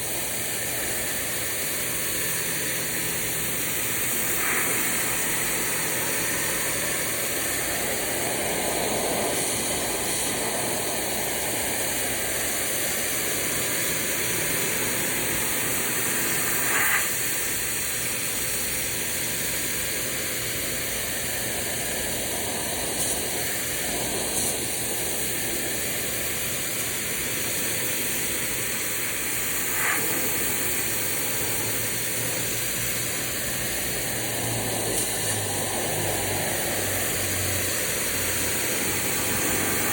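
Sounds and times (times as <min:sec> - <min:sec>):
pressure washer spraying: 0:00.0 - 0:18.5, 0:20.0 - 0:39.9.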